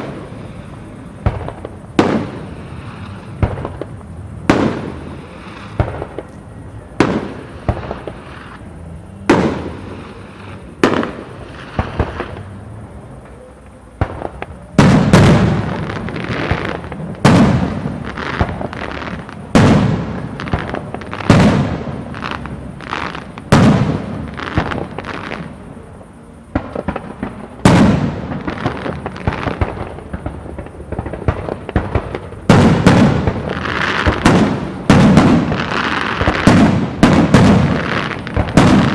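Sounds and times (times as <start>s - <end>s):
firework crackling: 0.0s - 38.9s.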